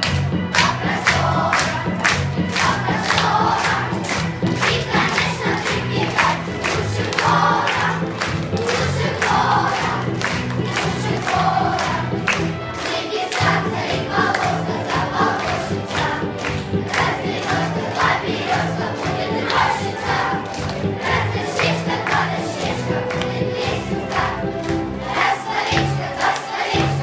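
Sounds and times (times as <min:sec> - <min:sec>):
children's choir singing: 0:00.0 - 0:27.0
instrumental accompaniment: 0:00.0 - 0:27.0.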